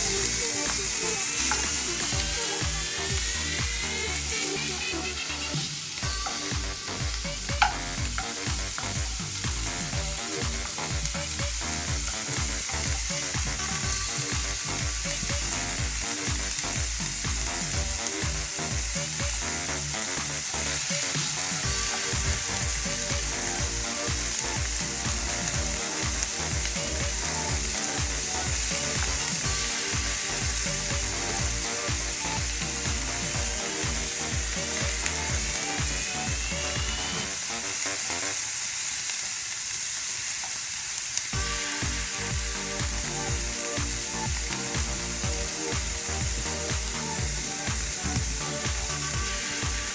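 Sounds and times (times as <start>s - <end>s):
onion sizzling in frying pan: 0.0s - 49.9s.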